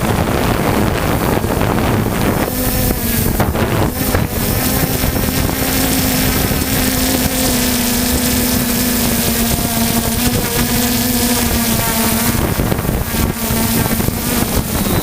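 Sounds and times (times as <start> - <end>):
drone propellers humming: 0.0 - 15.0
wind buffeting microphone: 0.0 - 15.0.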